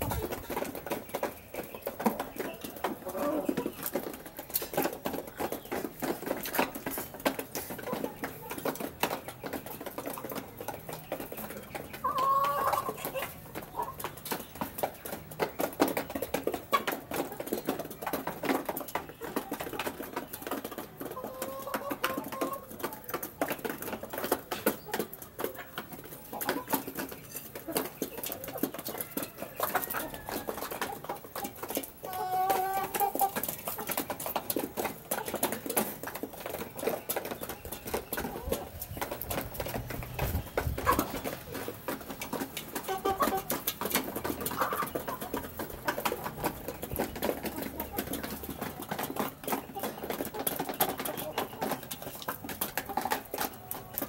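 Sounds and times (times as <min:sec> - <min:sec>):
chickens calling: 0:00.0 - 0:54.0.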